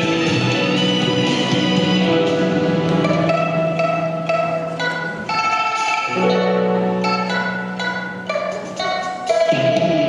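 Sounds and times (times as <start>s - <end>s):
plucked notes: 0.0s - 10.0s.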